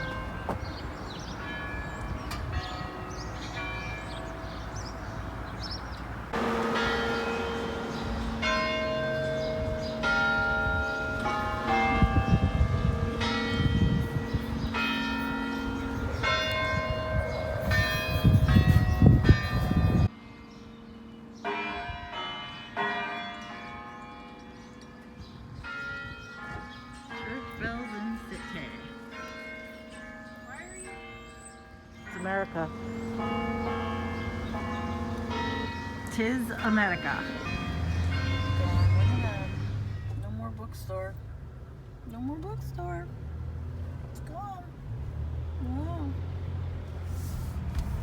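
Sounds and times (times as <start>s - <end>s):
church bells pealing: 0.0s - 41.2s.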